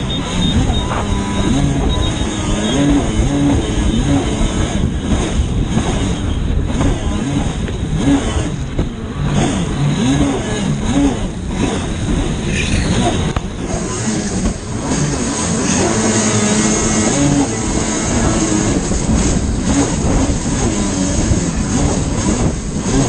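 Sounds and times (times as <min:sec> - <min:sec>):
personal watercraft engine racing: 0:00.0 - 0:23.0
wind: 0:00.0 - 0:23.0.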